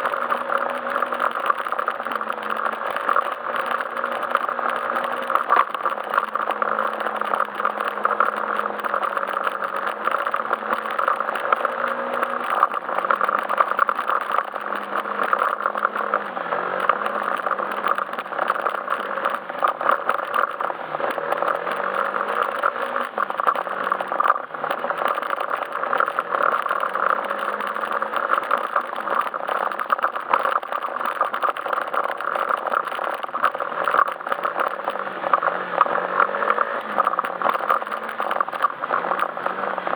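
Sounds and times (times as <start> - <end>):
dense rattling and clicks: 0.0 - 39.9
scooter engine running: 0.0 - 39.9.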